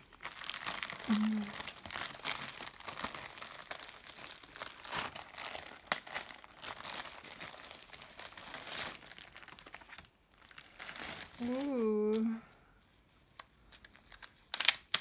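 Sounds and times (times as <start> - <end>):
plastic wrapper crinkling: 0.0 - 12.4, 13.4 - 15.0.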